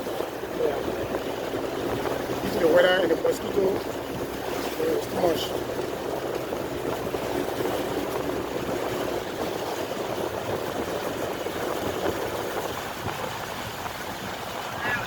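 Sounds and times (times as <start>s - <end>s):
tyres on wet road: 0.0s - 15.0s.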